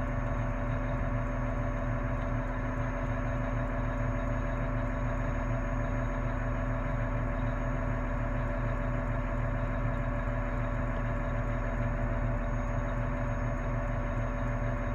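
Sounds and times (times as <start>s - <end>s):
heavy equipment engine idling: 0.0s - 14.9s.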